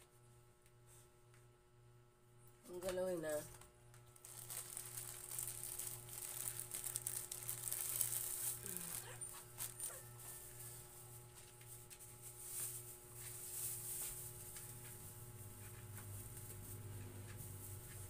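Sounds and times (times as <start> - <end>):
low pulsing hum: 1.8 - 18.0.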